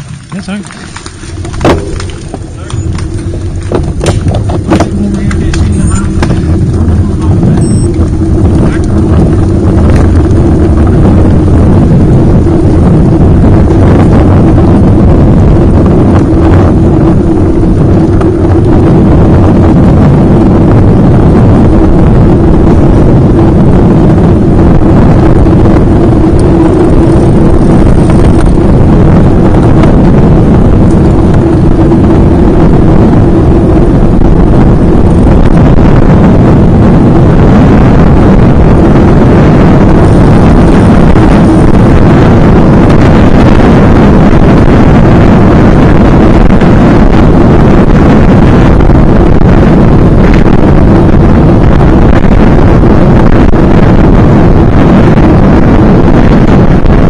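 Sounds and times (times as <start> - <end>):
constant low drone: 0.0 - 57.0
wind buffeting microphone: 0.0 - 57.0.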